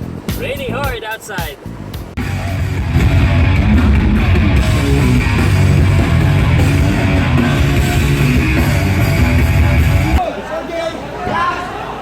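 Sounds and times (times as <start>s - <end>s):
heavy rock music: 0.0s - 10.2s.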